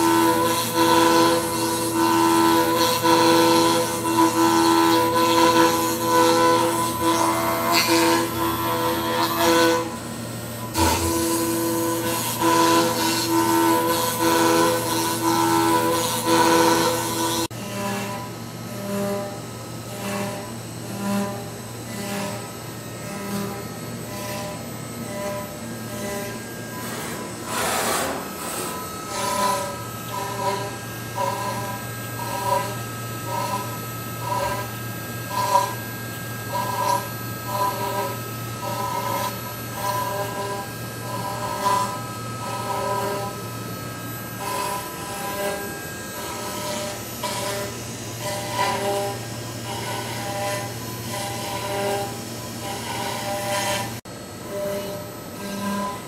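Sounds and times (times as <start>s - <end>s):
milling spindle whine: 0.0s - 56.0s
wood cutting noise: 0.0s - 56.0s.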